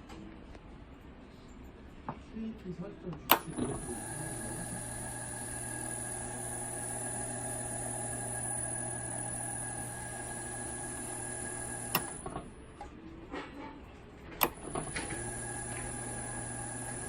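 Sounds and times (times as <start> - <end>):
inverter hum and whine: 0.0 - 17.0.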